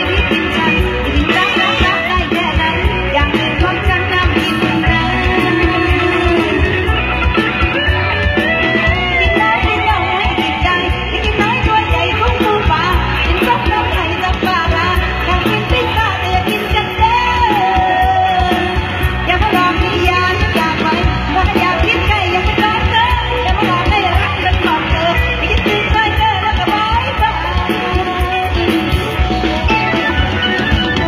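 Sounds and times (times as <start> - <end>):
drum and bass beat: 0.0 - 31.0
person singing: 0.0 - 31.0.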